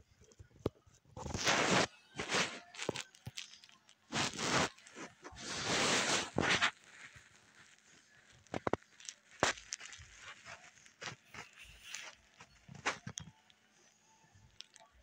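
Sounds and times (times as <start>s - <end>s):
rustling and handling noise: 0.0s - 15.0s.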